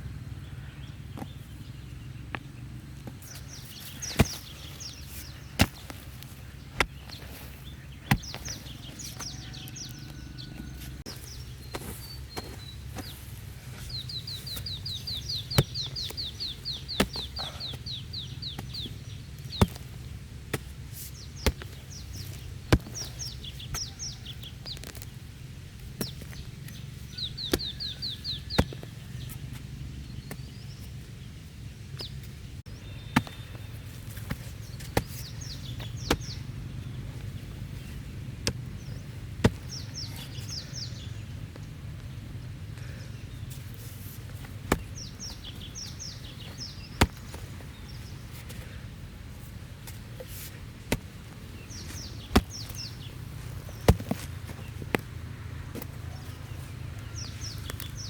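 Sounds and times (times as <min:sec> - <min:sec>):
small birds trilling: 0:00.0 - 0:58.0.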